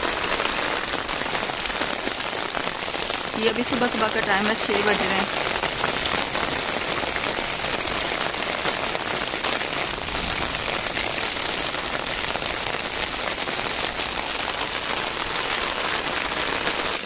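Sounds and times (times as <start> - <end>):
heavy rain on roofs and paving: 0.0 - 17.0.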